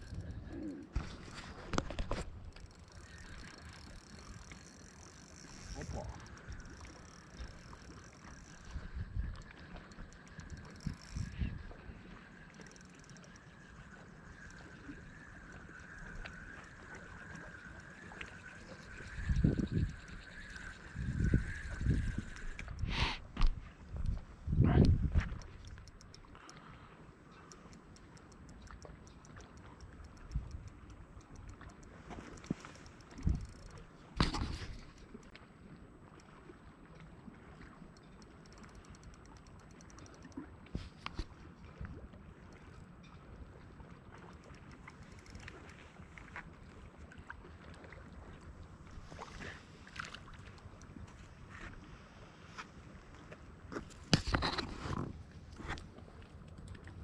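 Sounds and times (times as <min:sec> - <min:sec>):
fishing reel ticking: 0:00.0 - 0:24.2, 0:24.9 - 0:35.3, 0:37.8 - 0:41.6, 0:42.4 - 0:47.1, 0:48.2 - 0:51.7.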